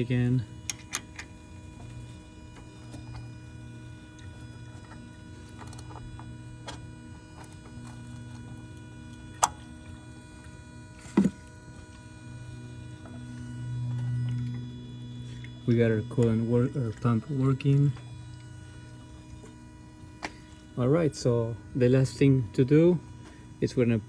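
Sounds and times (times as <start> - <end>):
coolant pump humming: 0.0 - 24.0.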